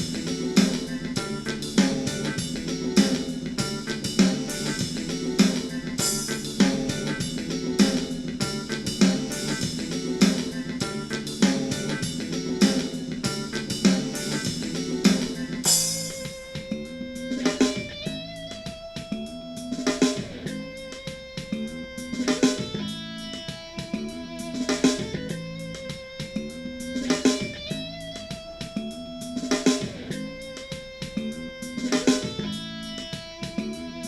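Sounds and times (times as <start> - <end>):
rock music through speaker: 0.0 - 34.0.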